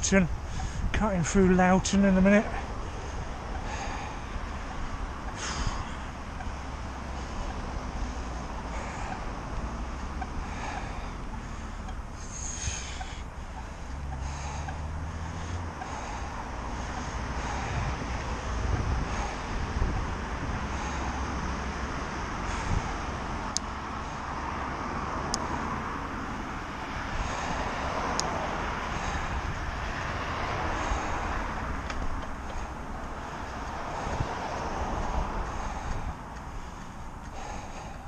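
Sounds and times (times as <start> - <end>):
cars passing on road: 0.0 - 38.0
wind rushing over camera: 0.0 - 38.0.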